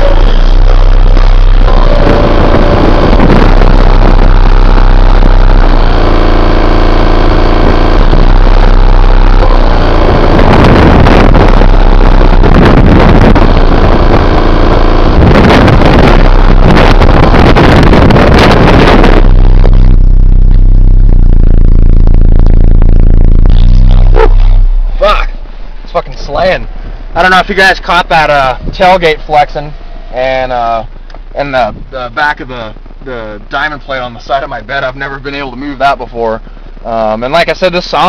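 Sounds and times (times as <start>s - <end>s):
overloaded subwoofer bass rumble: 0.0s - 38.0s.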